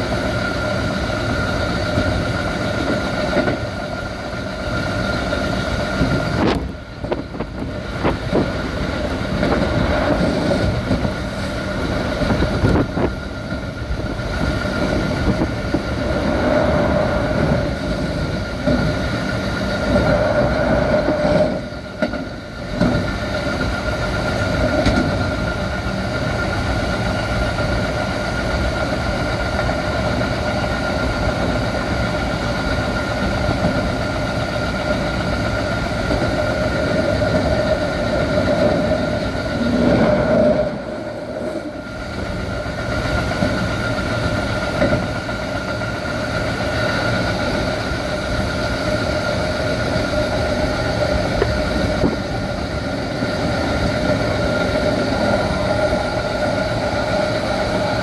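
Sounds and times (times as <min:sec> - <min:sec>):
steady train hum: 0:00.0 - 0:58.0
train wheels rumbling on rail: 0:00.0 - 0:58.0.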